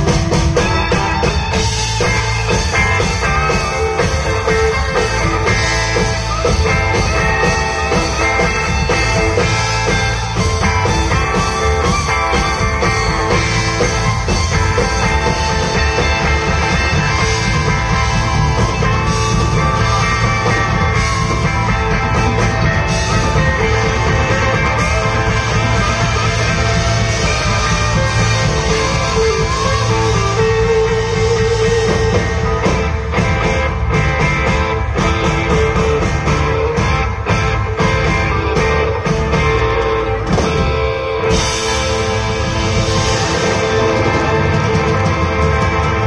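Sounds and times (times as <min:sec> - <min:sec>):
country-rock band playing: 0:00.0 - 0:46.0
lead guitar bending notes: 0:00.0 - 0:46.0.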